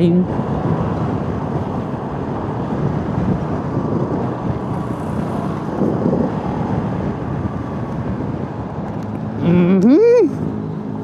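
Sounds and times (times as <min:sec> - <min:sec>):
wind on microphone: 0:00.0 - 0:11.0
motorcycle engine: 0:00.6 - 0:11.0.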